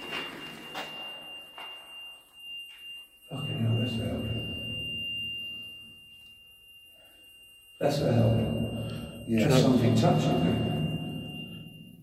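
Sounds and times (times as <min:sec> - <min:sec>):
high-pitched electronic alarm tone: 0:00.0 - 0:12.0.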